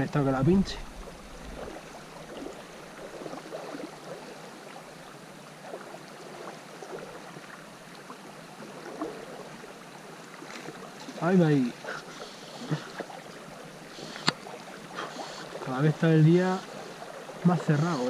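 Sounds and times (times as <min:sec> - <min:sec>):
river current rushing: 0:00.0 - 0:18.0
water gurgles and splashes: 0:00.0 - 0:18.0.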